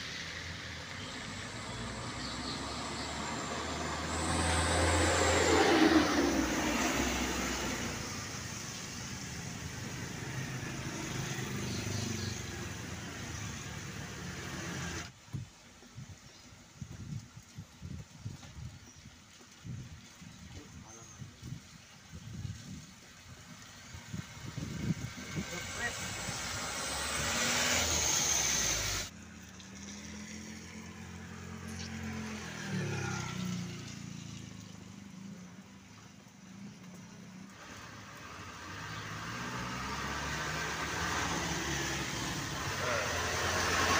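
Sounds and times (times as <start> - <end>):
rain hissing: 0.0 - 43.9
wet road noise: 0.0 - 43.9.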